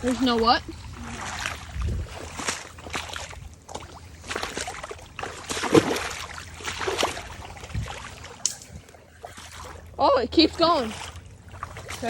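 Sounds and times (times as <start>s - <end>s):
trickle of flowing water: 0.0s - 12.0s
water splashing in a creek: 0.0s - 12.0s.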